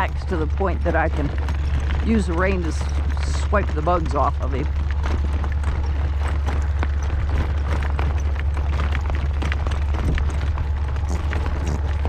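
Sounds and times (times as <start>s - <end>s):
horse hoofbeats clip-clopping: 0.0s - 12.0s
wind rumble on microphone: 0.0s - 12.0s.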